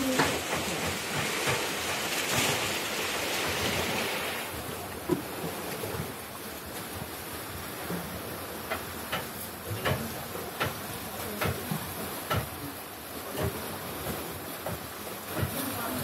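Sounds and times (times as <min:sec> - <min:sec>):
surf and wind hiss: 0:00.0 - 0:16.0.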